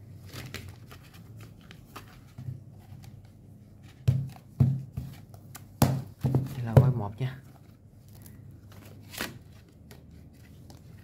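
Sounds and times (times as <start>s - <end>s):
rustling pages and covers: 0.0s - 11.0s.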